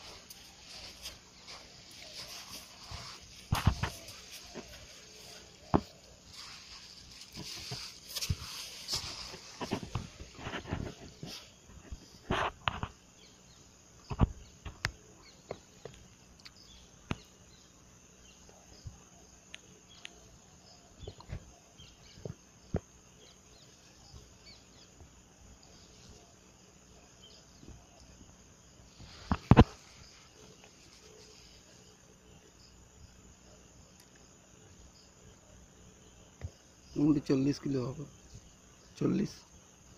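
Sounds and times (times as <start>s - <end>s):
faint insects chirping: 0.0s - 39.9s.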